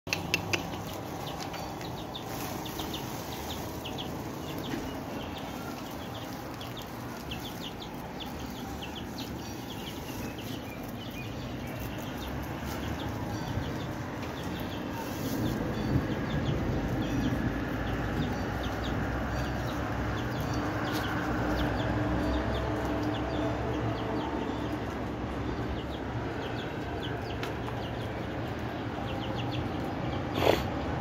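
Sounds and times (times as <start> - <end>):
birds chirping: 0.1 - 31.0.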